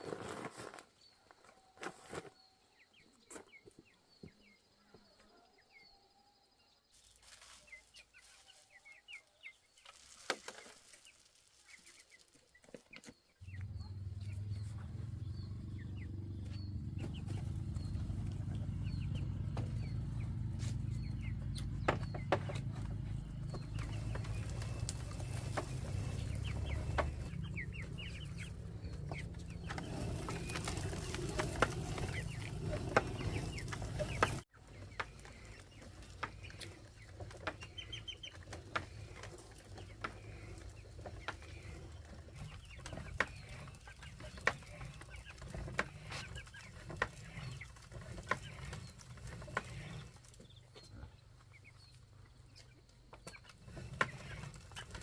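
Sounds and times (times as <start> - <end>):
chickens clucking: 7.0 - 55.0.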